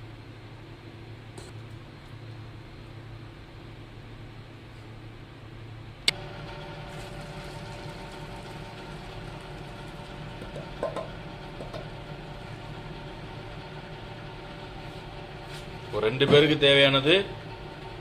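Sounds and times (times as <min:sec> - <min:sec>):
mechanical hum with whine: 0:00.0 - 0:18.0.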